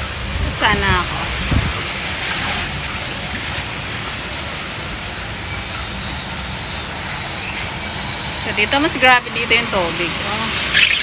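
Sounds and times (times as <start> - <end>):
white water rushing: 0.0 - 6.6, 7.6 - 11.0.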